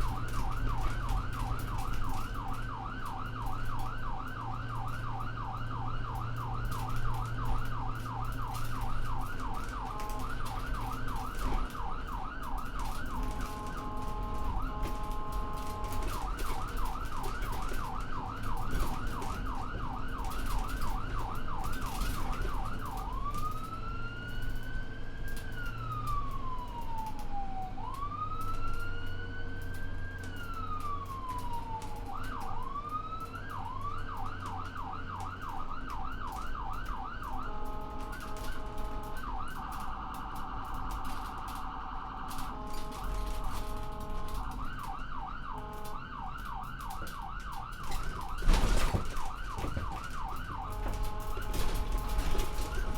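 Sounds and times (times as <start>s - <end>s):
electronic ambulance siren: 0.0s - 52.9s
vehicle rumble: 0.0s - 52.9s.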